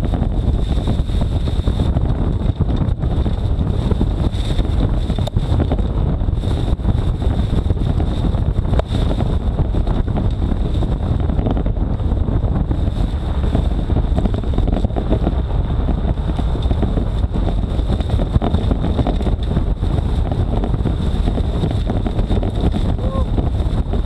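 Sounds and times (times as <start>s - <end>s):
vehicle engine drone: 0.0s - 24.0s
wind buffeting microphone: 0.0s - 24.0s.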